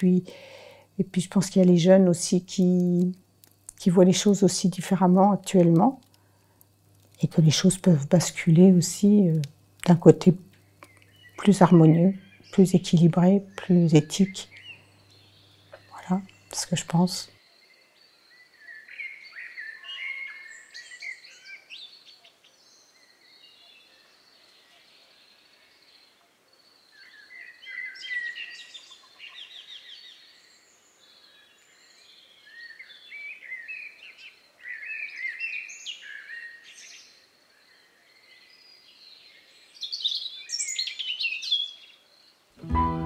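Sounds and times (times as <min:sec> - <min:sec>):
songbird singing: 0:00.0 - 0:06.2, 0:07.0 - 0:43.0.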